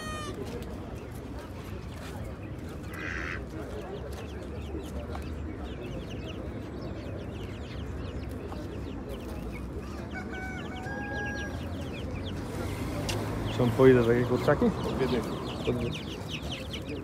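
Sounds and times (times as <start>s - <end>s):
chickens peeping and clucking: 0.0s - 17.0s.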